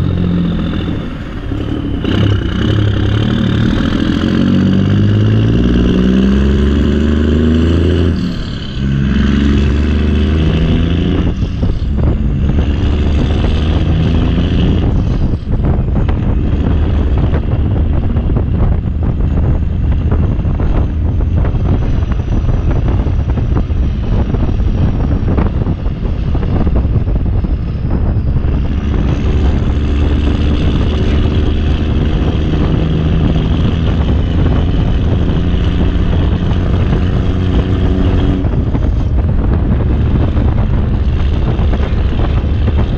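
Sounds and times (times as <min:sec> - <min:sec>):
backhoe diesel engine under load: 0:00.0 - 0:42.9.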